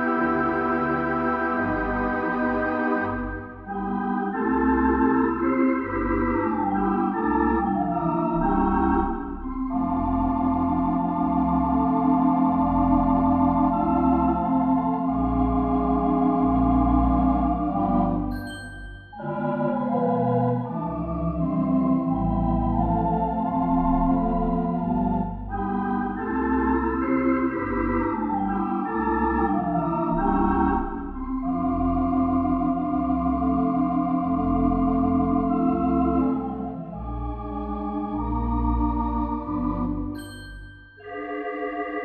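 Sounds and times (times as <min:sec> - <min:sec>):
theatre pipe organ playing: 0:00.0 - 0:18.4, 0:19.1 - 0:40.2, 0:41.0 - 0:42.0.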